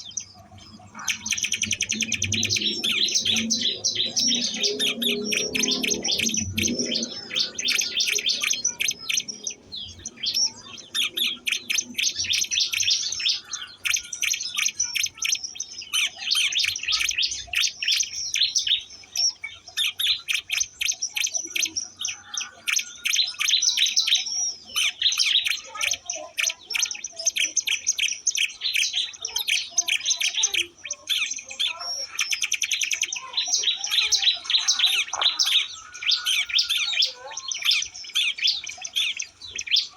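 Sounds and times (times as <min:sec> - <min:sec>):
bird singing high sharp chirps: 0:00.0 - 0:39.9.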